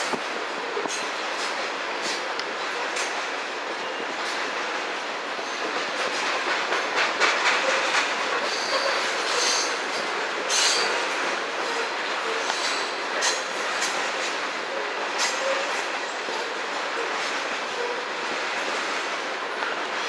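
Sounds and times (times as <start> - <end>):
freight train wheels clacking: 0.0 - 20.0.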